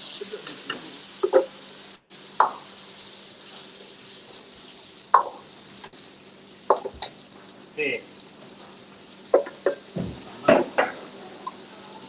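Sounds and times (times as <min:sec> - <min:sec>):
chili paste sizzling in wok: 0:00.0 - 0:12.0.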